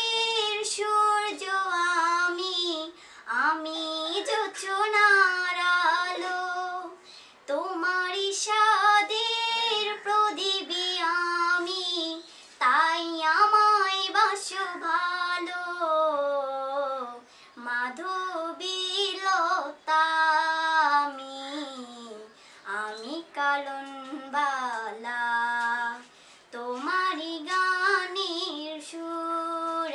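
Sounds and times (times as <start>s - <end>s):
woman singing unaccompanied: 0.0s - 29.9s.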